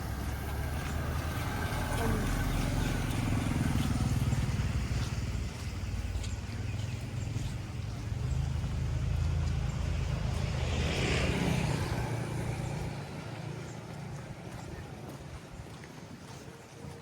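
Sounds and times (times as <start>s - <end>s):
vehicle engine rumble passing: 0.0s - 15.6s.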